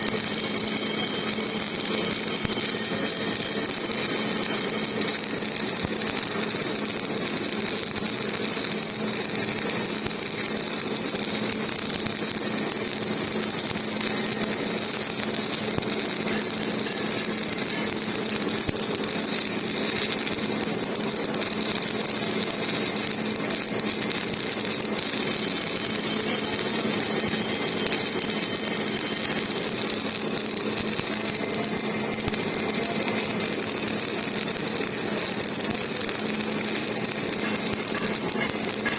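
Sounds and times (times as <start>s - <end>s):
arc welding hiss and crackle: 0.0s - 38.9s.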